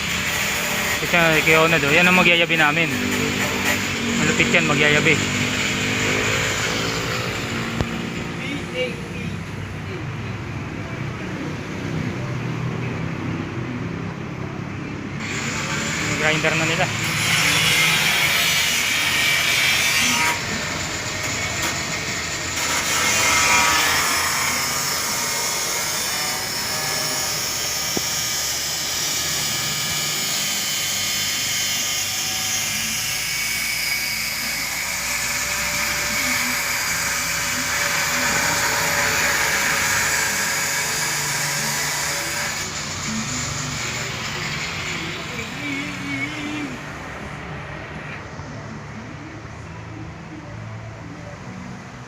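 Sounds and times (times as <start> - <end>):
angle grinder whining: 0.0 - 9.6, 15.2 - 48.6.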